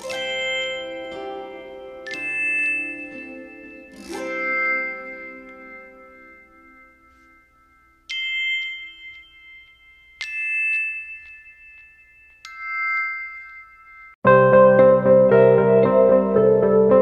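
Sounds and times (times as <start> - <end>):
ringing chime notes: 0.0 - 14.2.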